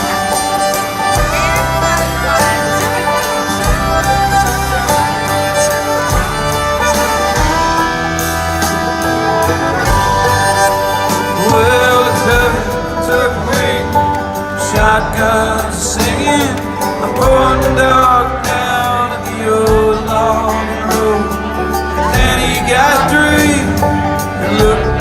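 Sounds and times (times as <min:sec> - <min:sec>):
country band playing: 0:00.0 - 0:25.0
fiddle melody: 0:00.0 - 0:25.0.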